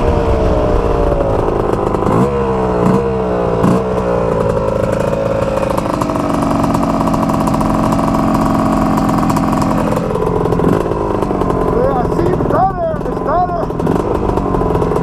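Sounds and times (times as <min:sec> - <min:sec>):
two-stroke engine revving and idling: 0:00.0 - 0:15.0.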